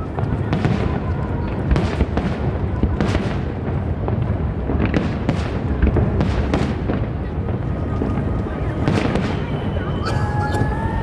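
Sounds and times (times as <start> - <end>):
fireworks booming: 0.0 - 11.0
low rumble of distant explosions: 0.0 - 11.0.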